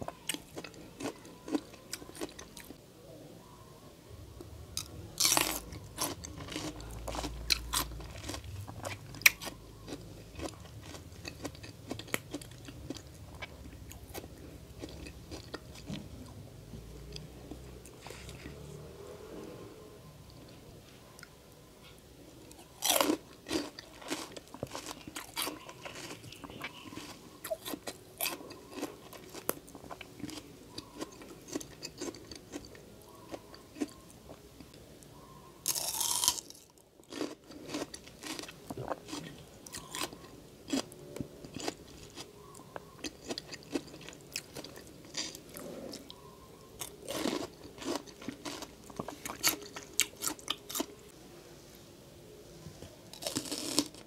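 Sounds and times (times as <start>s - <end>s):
crunchy chewing: 0.0s - 2.8s, 4.8s - 16.4s, 21.2s - 34.8s, 35.6s - 51.1s, 53.1s - 54.0s.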